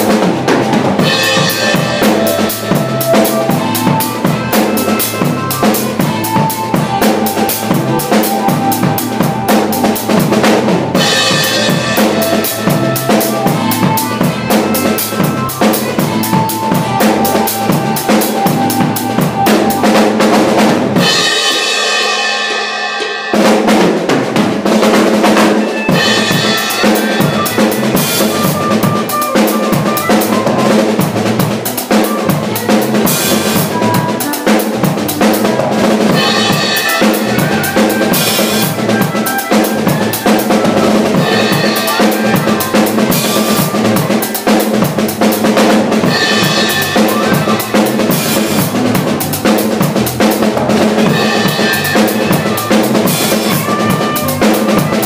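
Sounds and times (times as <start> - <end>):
drum kit groove: 0.0 - 55.0.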